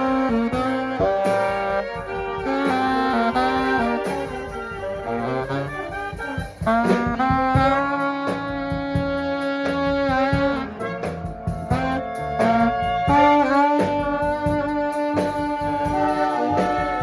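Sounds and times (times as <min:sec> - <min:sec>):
saxophone and brass horns: 0:00.0 - 0:17.0
steady drum beat: 0:00.0 - 0:17.0.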